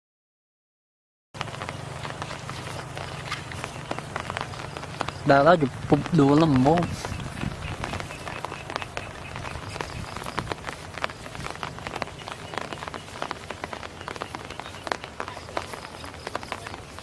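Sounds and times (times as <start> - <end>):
small water splashes: 1.4 - 17.0.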